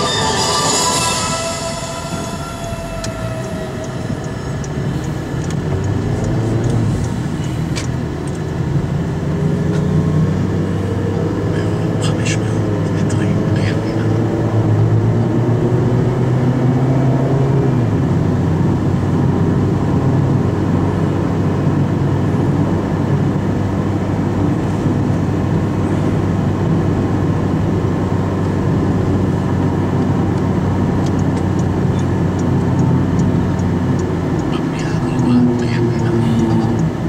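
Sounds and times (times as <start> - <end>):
engine and tyre drone: 0.0 - 37.0
humming engine note: 0.0 - 37.0.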